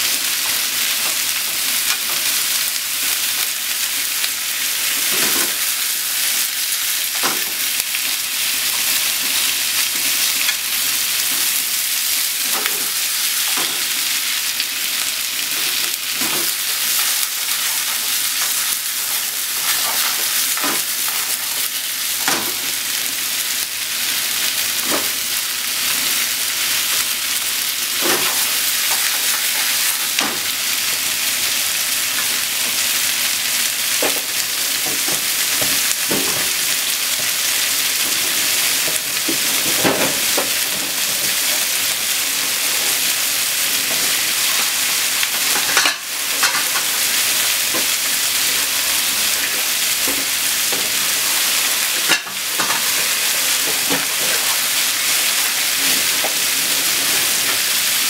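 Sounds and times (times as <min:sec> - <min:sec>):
food sizzling in frying pan: 0:00.0 - 0:58.0.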